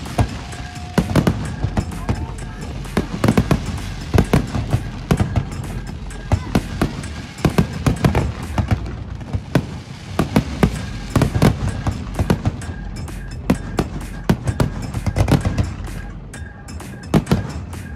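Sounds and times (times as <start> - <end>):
music: 0.0 - 17.9.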